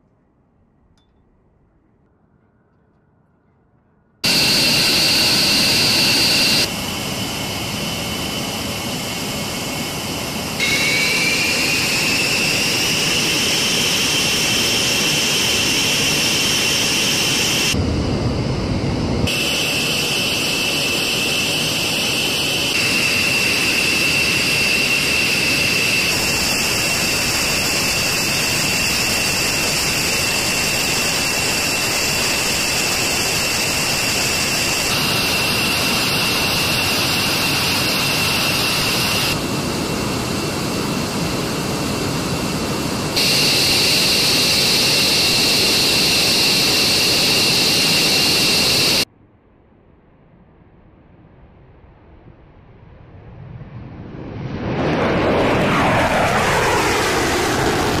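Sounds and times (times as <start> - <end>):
jet engines whining: 4.2 - 49.1, 54.0 - 58.0.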